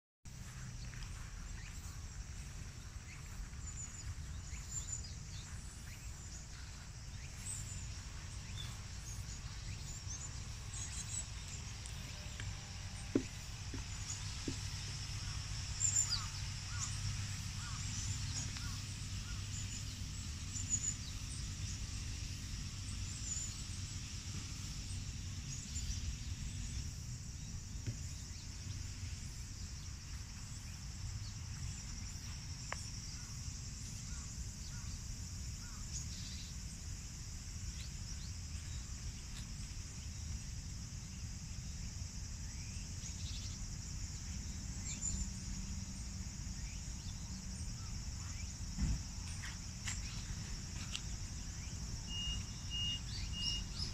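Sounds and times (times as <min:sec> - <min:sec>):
faint chirps: 0:00.3 - 0:37.1, 0:46.6 - 0:53.9
high insect drone: 0:00.3 - 0:53.9.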